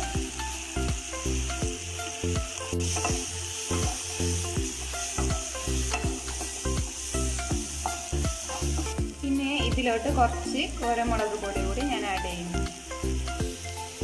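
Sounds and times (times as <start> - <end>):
background music with steady beat: 0.0 - 14.0
vegetables sizzling in hot oil: 0.0 - 14.0.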